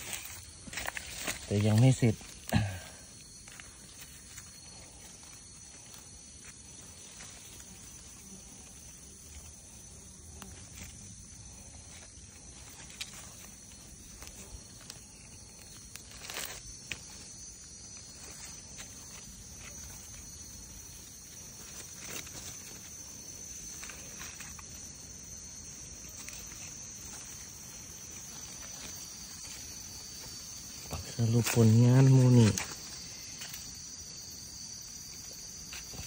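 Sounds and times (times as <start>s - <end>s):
forest insects droning: 0.0s - 36.0s.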